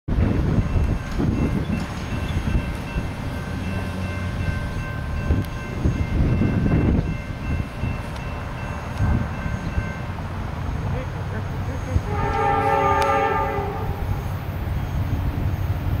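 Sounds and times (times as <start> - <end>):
freight train rumbling on rails: 0.1 - 16.0.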